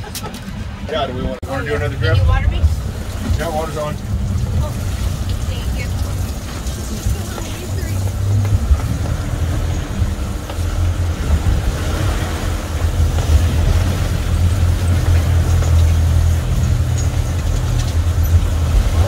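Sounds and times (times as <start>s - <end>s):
outboard motors humming: 0.0s - 19.0s
wind buffeting: 0.0s - 19.0s
water rushing past hull: 0.5s - 19.0s.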